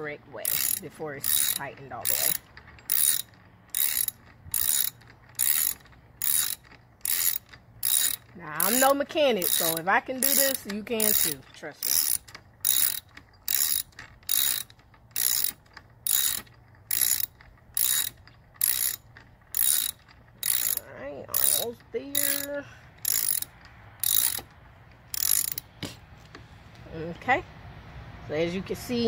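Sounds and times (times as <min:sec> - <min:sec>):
ratchet clicking: 0:00.4 - 0:26.4.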